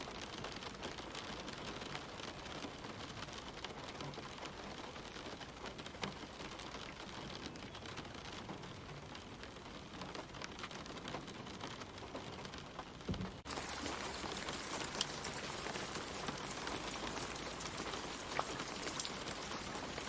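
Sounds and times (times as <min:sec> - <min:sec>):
light rain on leaves: 0:00.0 - 0:20.0.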